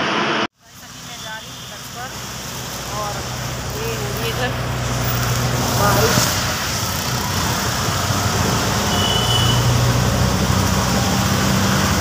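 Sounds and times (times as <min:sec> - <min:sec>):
road and wind noise: 0:00.0 - 0:12.0
rickshaw motor humming: 0:00.7 - 0:12.0.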